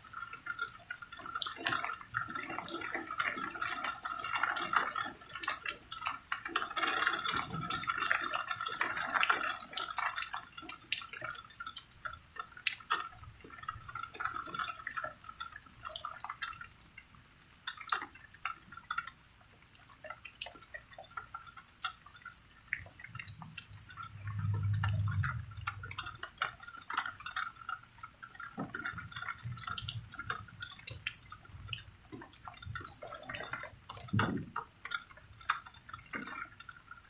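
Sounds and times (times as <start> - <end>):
rain dripping and splashing: 0.0 - 37.0.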